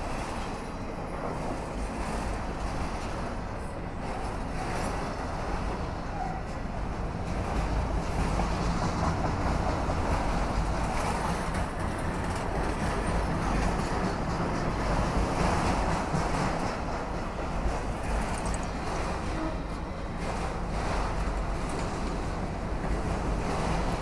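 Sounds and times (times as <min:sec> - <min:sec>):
freight train rolling past: 0:00.0 - 0:24.0.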